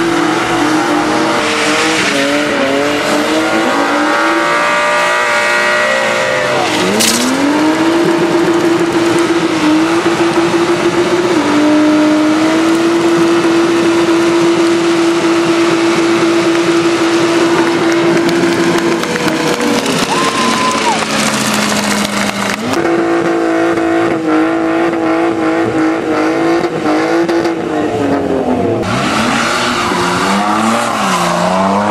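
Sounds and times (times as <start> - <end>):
car engine at high revs: 0.0 - 31.9.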